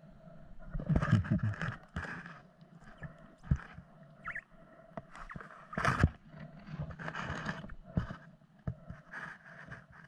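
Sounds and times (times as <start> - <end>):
underwater knocks and scrapes: 0.6 - 10.0.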